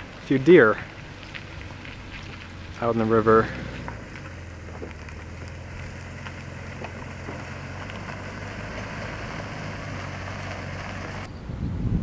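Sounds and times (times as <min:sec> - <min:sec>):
vehicle engine idling: 0:00.0 - 0:11.3.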